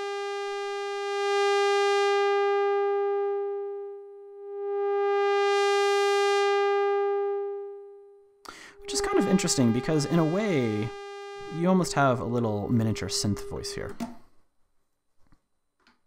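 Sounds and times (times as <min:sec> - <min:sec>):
synthesizer tone with filter sweep: 0:00.0 - 0:14.0.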